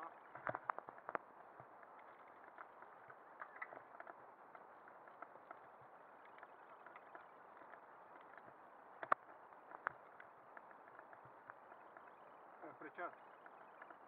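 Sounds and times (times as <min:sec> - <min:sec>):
bike tyres rolling on dirt: 0:00.0 - 0:14.0
small clicks: 0:00.1 - 0:14.0.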